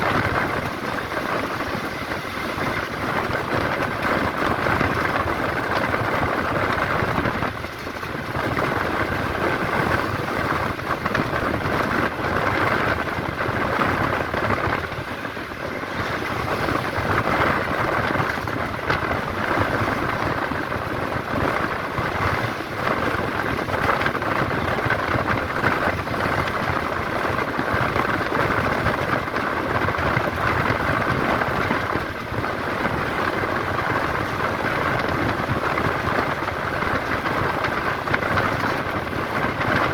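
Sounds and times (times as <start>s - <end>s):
bus engine and road noise: 0.0s - 39.9s
constant rattle: 0.0s - 39.9s.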